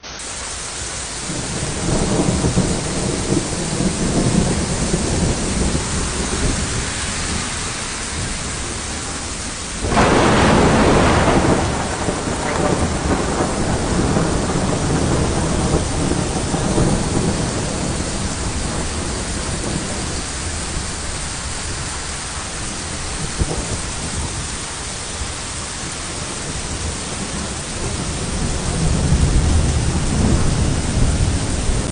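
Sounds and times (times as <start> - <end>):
steady rain: 0.0 - 31.9
low rumbling thunder: 1.1 - 31.9
loud thunderclap: 1.2 - 31.9.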